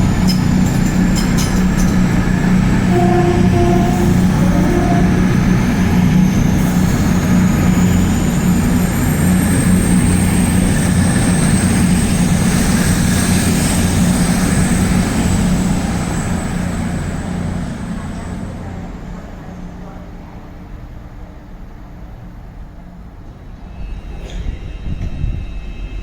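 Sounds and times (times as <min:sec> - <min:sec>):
train engine droning with whine: 0:00.0 - 0:26.0.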